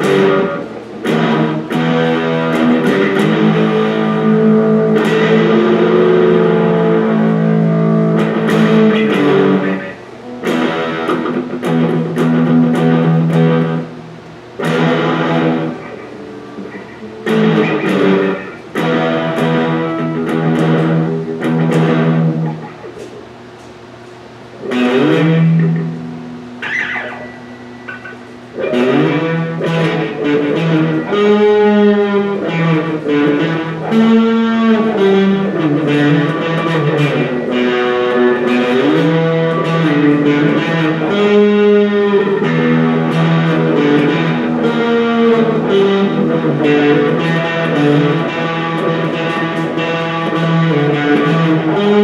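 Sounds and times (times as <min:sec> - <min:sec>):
electric guitar playing: 0:00.0 - 0:52.0.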